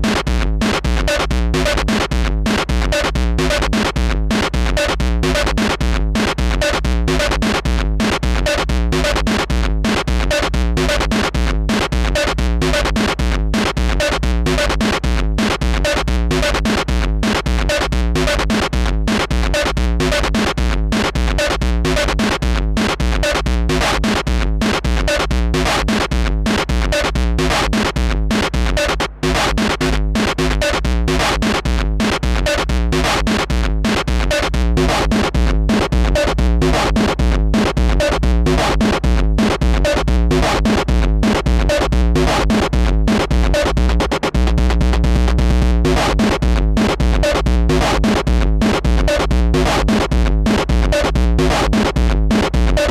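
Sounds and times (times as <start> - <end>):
distorted drum machine beat: 0.0 - 52.9
heavy bass: 0.0 - 52.9.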